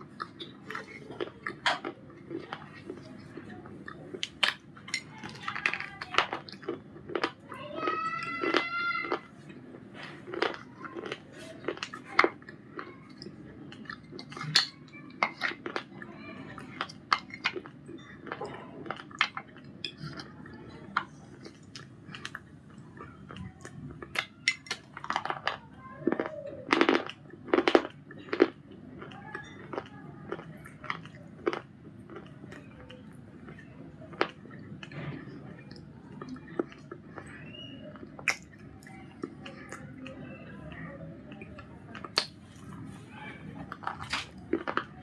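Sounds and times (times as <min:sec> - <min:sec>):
biscuit crunching and chewing: 0:00.0 - 0:45.0.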